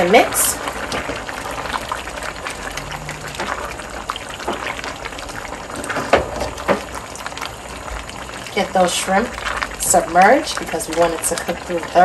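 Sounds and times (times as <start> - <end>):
spatula stirring with wet squelches: 0.0 - 12.0
stew bubbling in a pot: 0.0 - 12.0.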